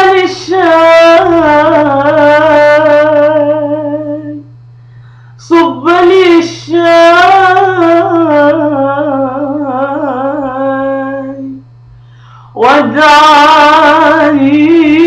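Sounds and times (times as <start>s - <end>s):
woman singing wordless notes: 0.0s - 4.5s, 5.4s - 11.7s, 12.5s - 15.0s
faint low hum: 0.0s - 15.0s.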